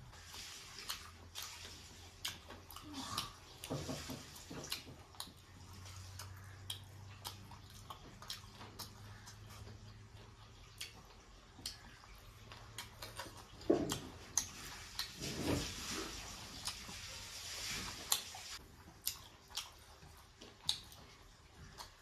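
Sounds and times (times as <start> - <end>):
wet mouth clicks while chewing: 0.2 - 15.4, 16.1 - 17.2, 18.1 - 22.0.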